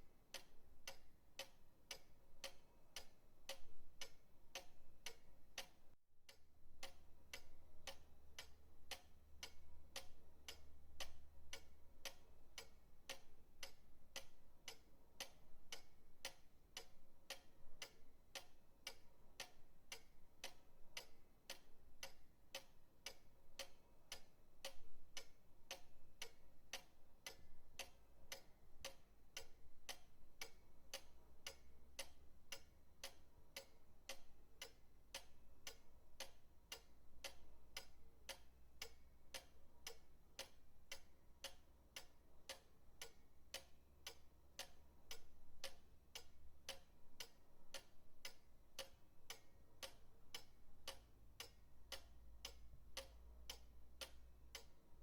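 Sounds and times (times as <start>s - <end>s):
pendulum clock ticking: 0.0s - 55.0s.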